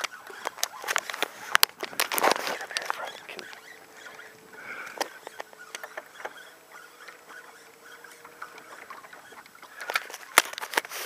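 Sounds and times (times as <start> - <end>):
small waves lapping against boat hull: 0.0 - 10.4
faint steady hum: 0.0 - 11.0.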